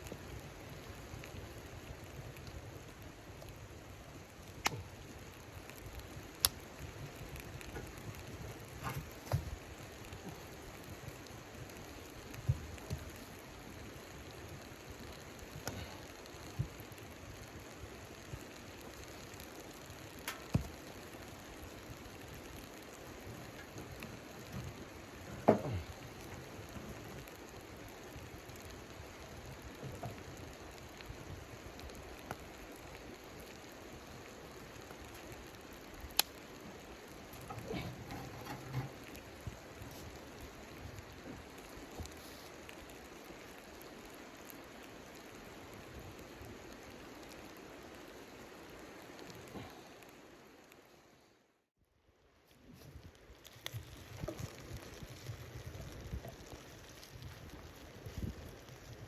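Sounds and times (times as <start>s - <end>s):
rain hissing: 0.0s - 51.3s, 52.9s - 59.0s.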